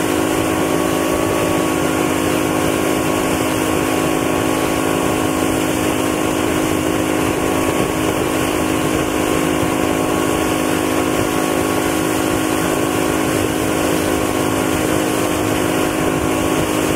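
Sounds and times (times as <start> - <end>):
boat engine running: 0.0 - 16.9
churning wake rushing: 0.0 - 16.9.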